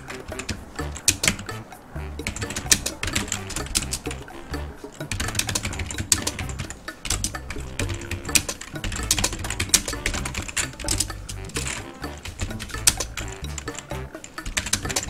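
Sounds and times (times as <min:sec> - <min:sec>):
computer keyboard typing: 0:00.0 - 0:01.6, 0:02.2 - 0:04.3, 0:05.0 - 0:15.0.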